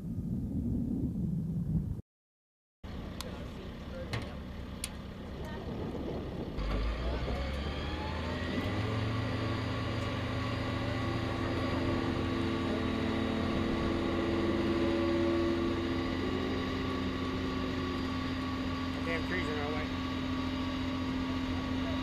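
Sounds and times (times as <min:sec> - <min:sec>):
large vehicle engine running: 0:02.8 - 0:22.0.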